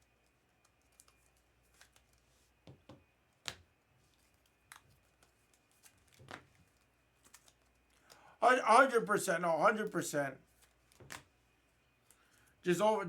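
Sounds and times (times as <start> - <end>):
trading cards and wrappers handled: 0.1 - 9.0, 10.4 - 12.6.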